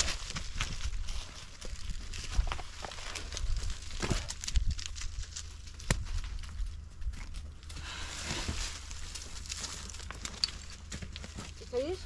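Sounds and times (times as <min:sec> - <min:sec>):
scraping and rustling of rocks and leaves: 0:00.0 - 0:12.0.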